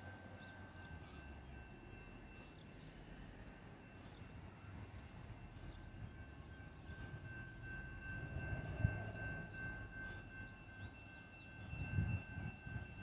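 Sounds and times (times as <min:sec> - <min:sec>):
distant train rumble: 0:00.0 - 0:13.0
quiet street ambience: 0:00.0 - 0:13.0.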